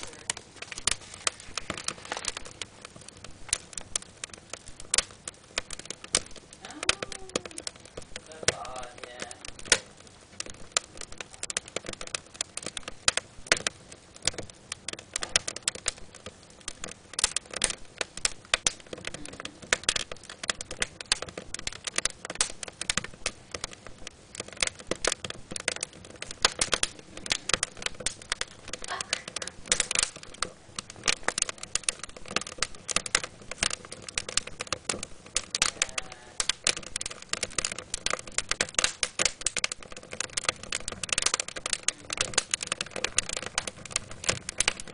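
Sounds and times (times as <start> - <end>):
sharp pops and snaps: 0.0 - 44.9
wood fire crackling: 0.0 - 44.9.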